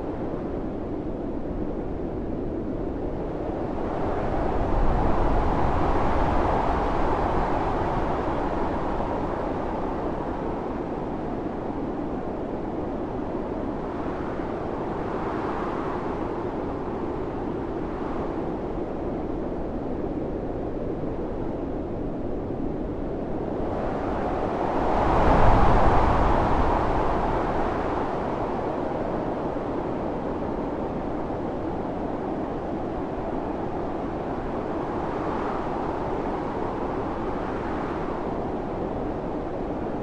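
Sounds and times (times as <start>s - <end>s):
howling wind in gusts: 0.0s - 40.0s.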